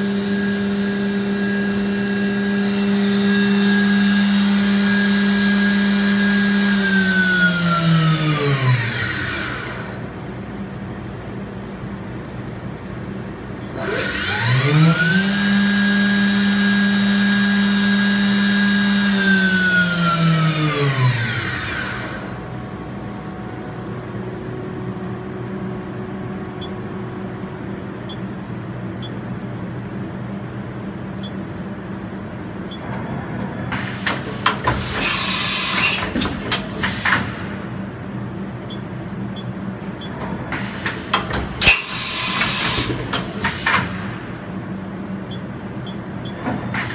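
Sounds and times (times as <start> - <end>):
machine spindle whine: 0.0 - 10.4, 13.5 - 46.9.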